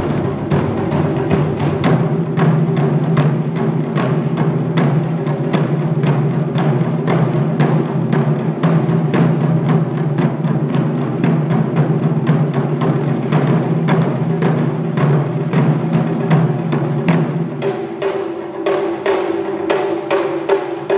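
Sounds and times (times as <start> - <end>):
barrel drums beating rhythm: 0.0 - 20.9.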